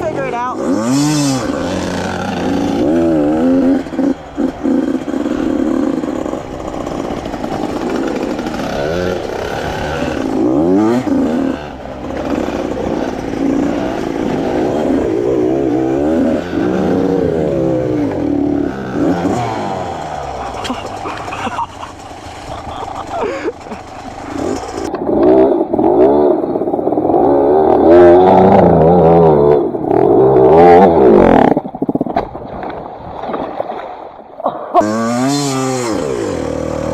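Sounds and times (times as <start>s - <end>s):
dirt bike engines revving: 0.0s - 31.8s, 34.5s - 36.9s.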